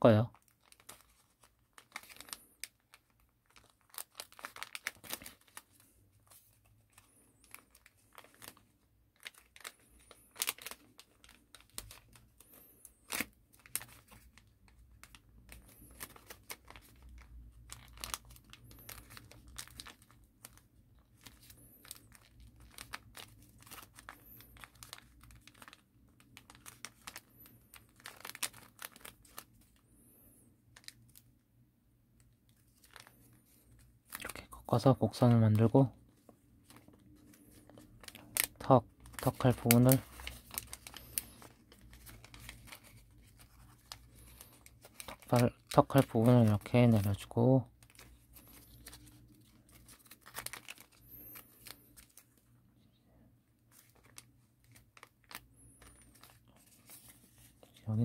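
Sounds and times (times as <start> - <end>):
paper crinkling: 0.3 - 31.3, 32.2 - 52.8, 53.5 - 58.0.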